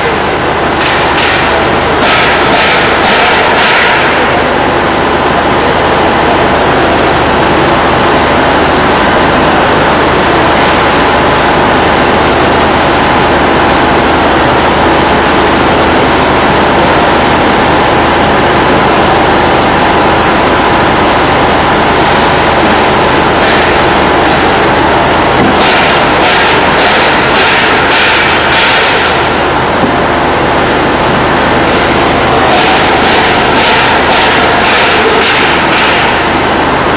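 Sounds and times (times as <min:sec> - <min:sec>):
industrial machinery noise: 0:00.0 - 0:36.9.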